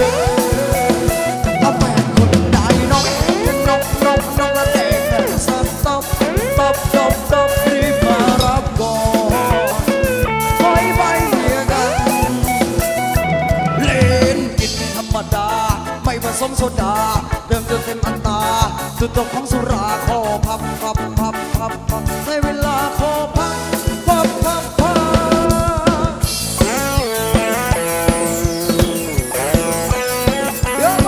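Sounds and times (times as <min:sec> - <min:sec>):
dance band with drums: 0:00.0 - 0:16.2, 0:22.0 - 0:31.0.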